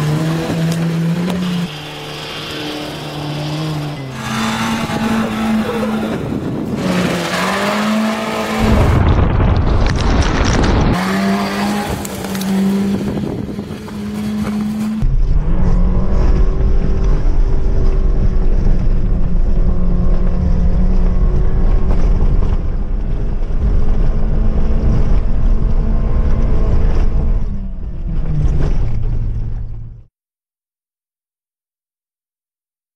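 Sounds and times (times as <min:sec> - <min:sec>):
car engine at high revs: 0:00.0 - 0:09.0, 0:10.9 - 0:29.6
heavy rushing noise: 0:01.6 - 0:29.5.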